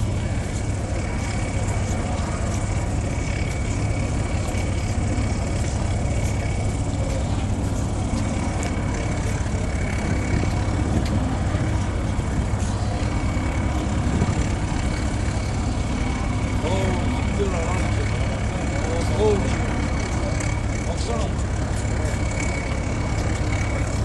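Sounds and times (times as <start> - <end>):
boat engine rumbling: 0.0 - 24.0
faint steady whine: 0.0 - 24.0.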